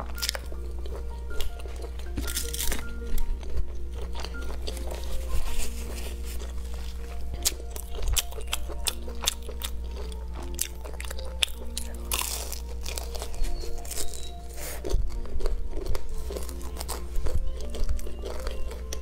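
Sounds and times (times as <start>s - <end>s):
background music held notes: 0.0s - 19.0s
crunchy chewing: 0.0s - 19.0s.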